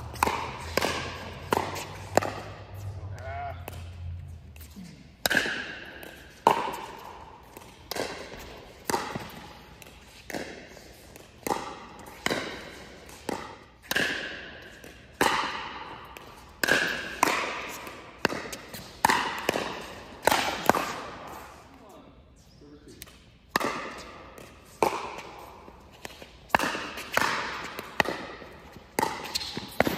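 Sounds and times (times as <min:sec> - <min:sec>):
paddles hitting plastic ball: 0:00.0 - 0:02.7, 0:05.2 - 0:21.3, 0:23.0 - 0:29.9
ball bouncing on court: 0:00.0 - 0:21.4, 0:23.0 - 0:29.9.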